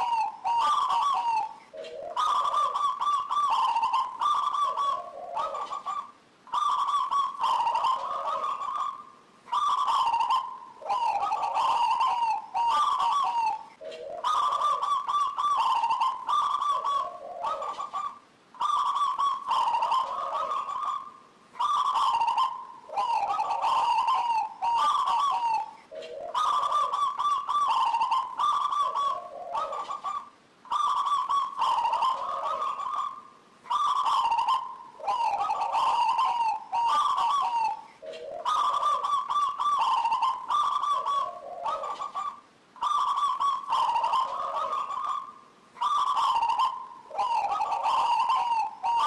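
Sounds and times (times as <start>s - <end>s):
dove trilling coos: 0.0s - 49.0s.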